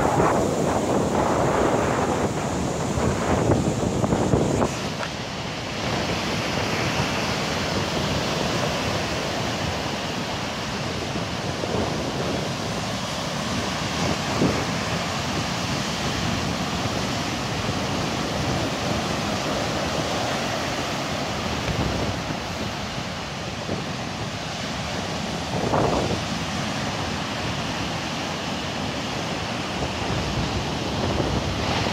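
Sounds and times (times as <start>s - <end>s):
waves breaking on beach: 0.0s - 31.9s
wind buffeting microphone: 0.0s - 31.9s.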